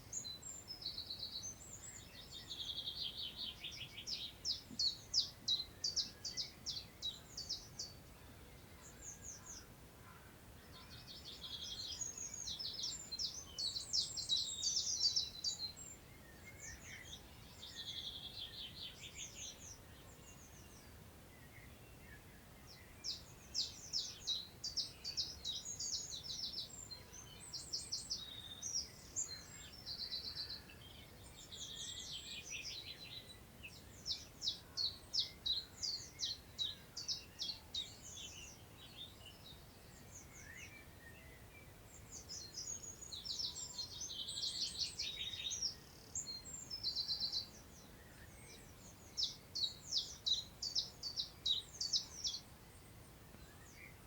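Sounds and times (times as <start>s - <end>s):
songbirds singing: 0.0s - 54.0s
wind in long grass: 0.0s - 54.0s.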